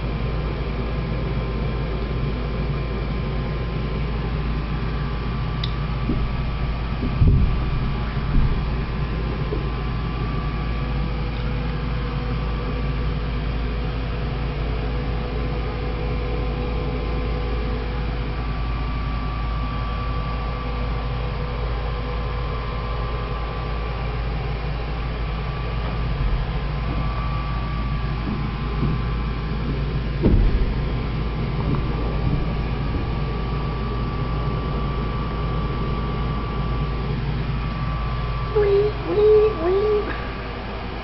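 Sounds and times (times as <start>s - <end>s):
faint steady whines: 0.0s - 41.0s
low mechanical hum: 0.0s - 41.0s.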